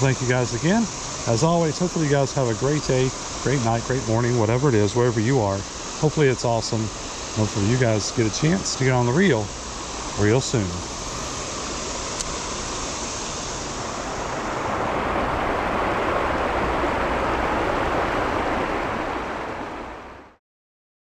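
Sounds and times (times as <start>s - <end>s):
creek water rushing over rocks: 0.0s - 20.2s.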